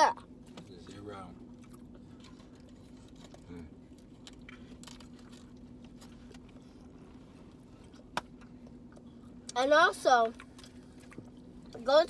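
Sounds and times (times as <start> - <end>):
steady low hum: 0.0 - 12.0
quiet chewing: 0.2 - 9.6, 10.2 - 11.8.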